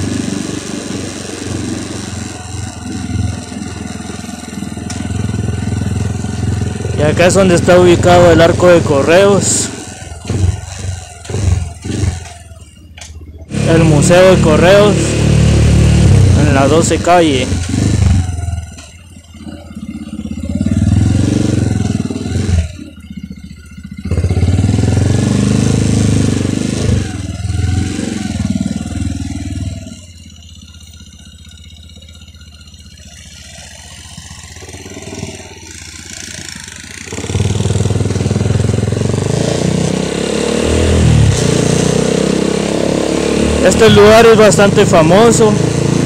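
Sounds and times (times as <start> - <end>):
motorcycle engine: 0.0 - 46.0
road noise: 0.0 - 46.0.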